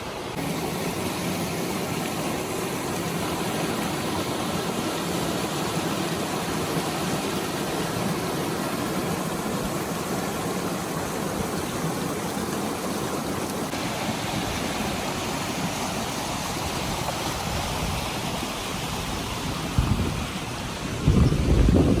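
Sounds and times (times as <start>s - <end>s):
rushing flowing water: 0.0s - 22.0s.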